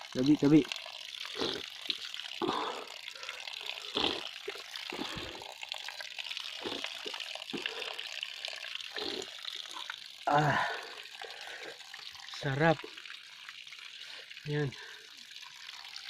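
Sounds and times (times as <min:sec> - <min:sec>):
splashes of someone drinking: 0:00.0 - 0:16.0
spring water running: 0:00.0 - 0:16.0.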